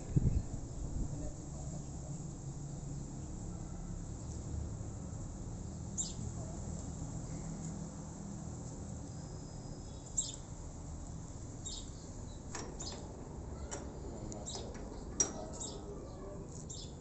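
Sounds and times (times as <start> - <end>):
outdoor background noise: 0.0 - 17.0
small birds chirping: 0.0 - 17.0.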